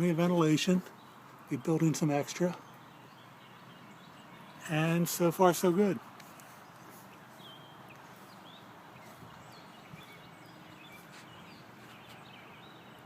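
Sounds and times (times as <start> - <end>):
bird chirps: 0.8 - 5.3, 6.3 - 13.0.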